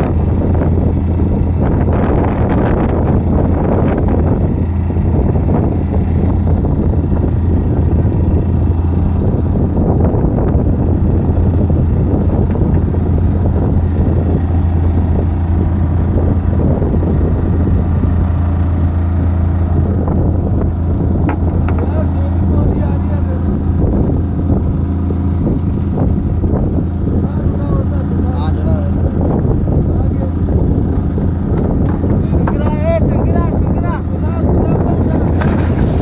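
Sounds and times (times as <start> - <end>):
boat engine humming: 0.0 - 36.0
strong wind rushing: 0.0 - 36.0.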